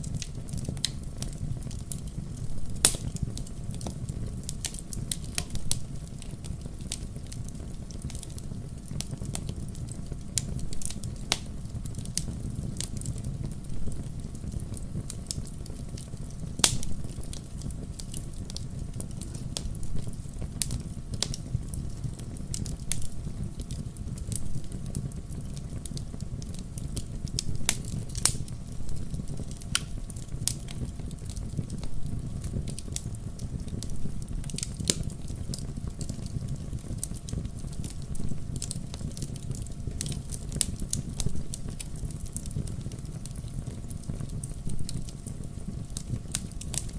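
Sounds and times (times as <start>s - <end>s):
fireplace fire crackling and popping: 0.0s - 46.9s.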